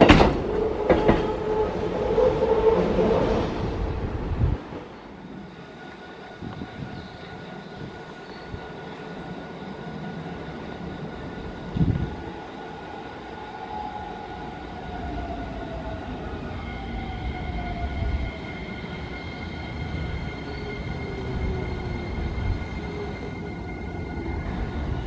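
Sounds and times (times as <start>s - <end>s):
electric train pulling in: 0.0s - 25.0s.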